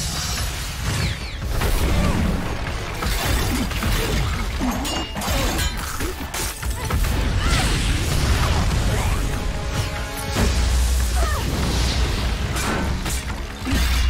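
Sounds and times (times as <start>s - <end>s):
clashing blades: 0.0s - 14.0s
dramatic orchestral score: 0.0s - 14.0s.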